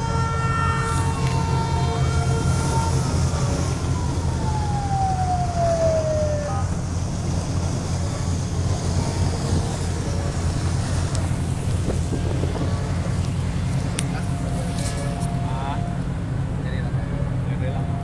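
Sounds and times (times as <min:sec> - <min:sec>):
wind on microphone: 0:00.0 - 0:15.3
siren wailing: 0:00.0 - 0:16.1
boat engine rumbling: 0:00.0 - 0:18.0.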